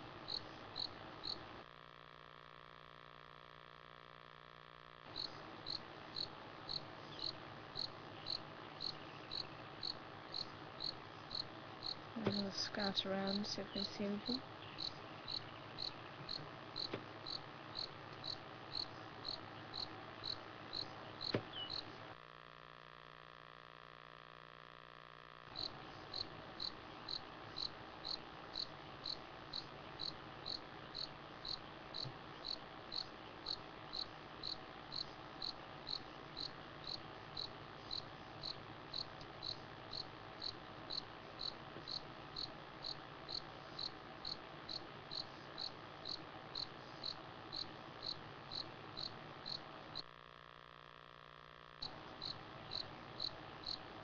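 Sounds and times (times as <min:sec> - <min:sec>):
cricket chirping: 0:00.2 - 0:01.5, 0:05.1 - 0:12.1, 0:13.3 - 0:22.0, 0:25.5 - 0:50.1, 0:51.8 - 0:53.9.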